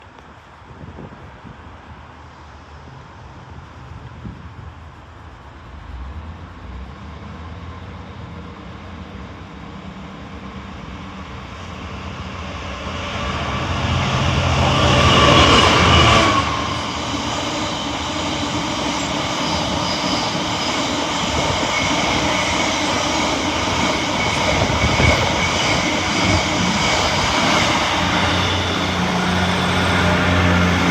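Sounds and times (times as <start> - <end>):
freight train passing: 0.0 - 30.9.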